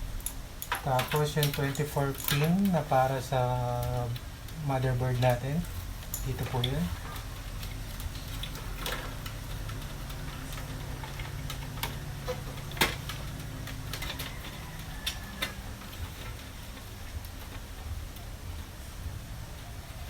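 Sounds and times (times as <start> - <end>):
steady low hum: 0.0 - 20.0
plastic cables clicking and rattling: 0.2 - 18.6.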